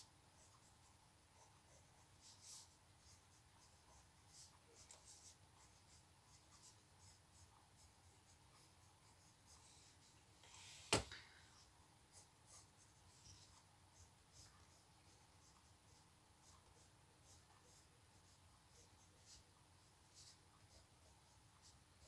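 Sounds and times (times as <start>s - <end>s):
pencil scratching on paper: 0.0s - 10.2s, 11.6s - 22.0s.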